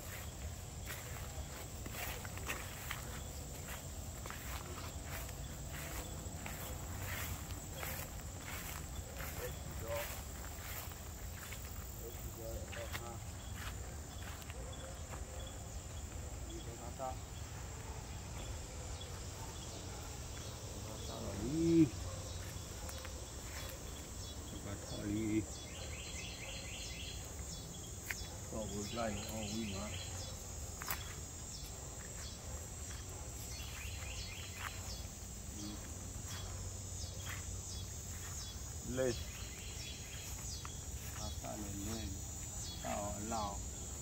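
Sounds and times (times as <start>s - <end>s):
insects chirping in trills: 0.0s - 44.0s.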